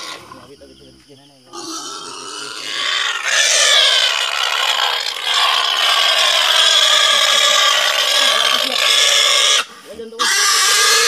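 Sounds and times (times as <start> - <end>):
pig squealing: 0.0 - 0.4, 1.5 - 11.0.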